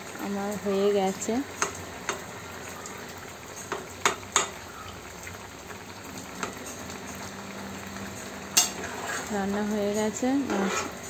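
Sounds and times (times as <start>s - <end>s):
curry sizzling in a frying pan: 0.0s - 11.0s.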